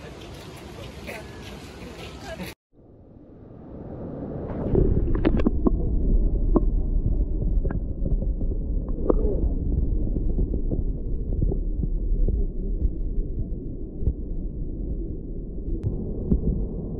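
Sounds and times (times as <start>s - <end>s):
underwater water rumble: 2.8s - 16.9s.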